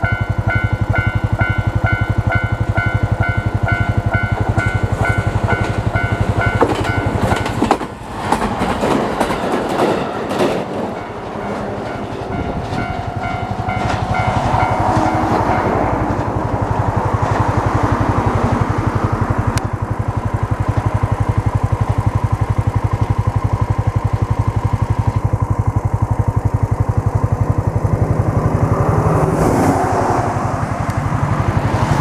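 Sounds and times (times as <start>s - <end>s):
motorcycle engine idling: 0.0s - 7.8s, 10.0s - 29.3s.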